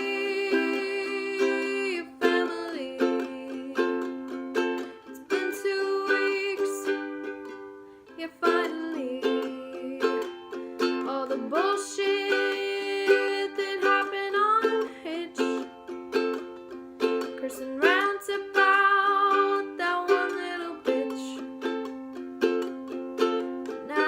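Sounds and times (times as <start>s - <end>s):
string instrument strummed: 0.0s - 24.0s.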